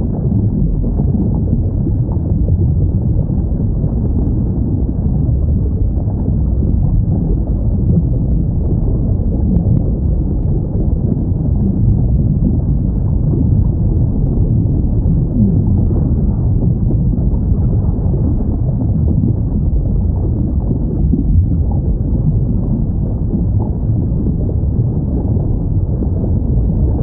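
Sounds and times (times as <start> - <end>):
underwater rumble: 0.0 - 27.0.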